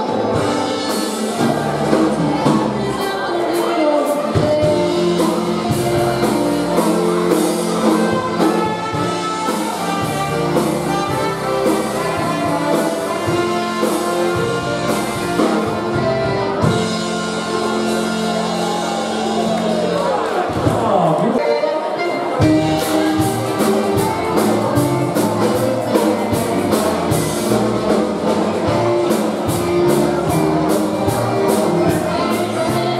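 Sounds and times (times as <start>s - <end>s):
polka band playing: 0.0s - 32.9s.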